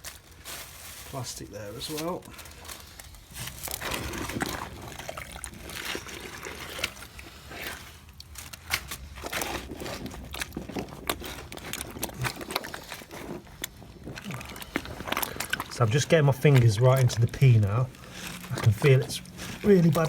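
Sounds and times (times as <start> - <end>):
wet debris clicks and rustles: 0.0 - 20.0.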